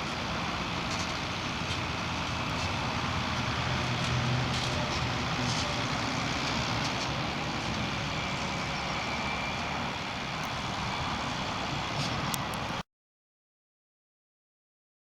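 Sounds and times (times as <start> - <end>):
tractor diesel engine under load: 0.0 - 12.8.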